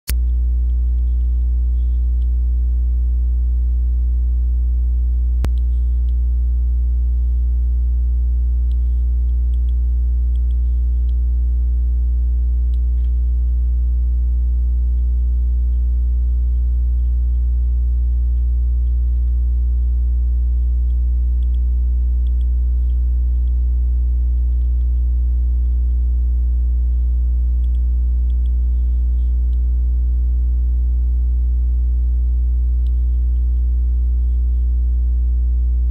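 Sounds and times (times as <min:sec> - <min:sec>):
low electrical hum: 0:00.1 - 0:35.9.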